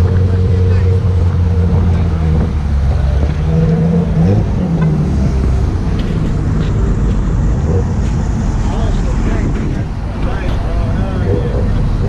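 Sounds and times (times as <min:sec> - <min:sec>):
car engine pulling away: 0:00.0 - 0:12.0.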